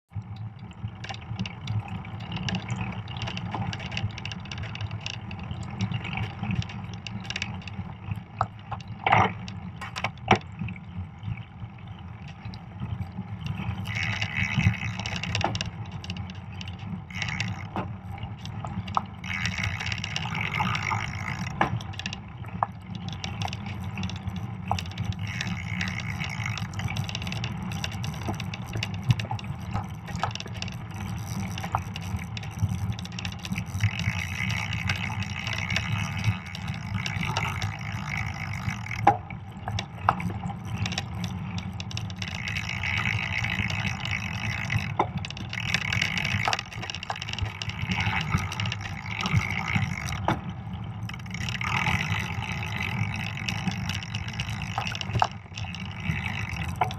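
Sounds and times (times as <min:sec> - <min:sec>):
bike tyres rumbling: 0:00.2 - 0:56.9.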